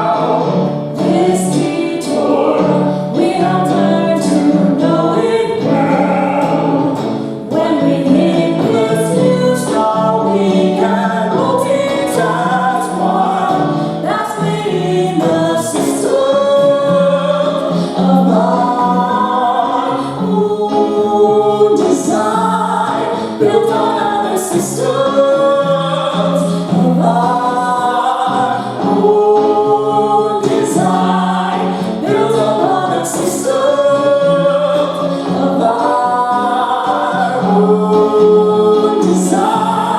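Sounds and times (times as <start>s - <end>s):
group singing a musical number: 0.0s - 39.9s.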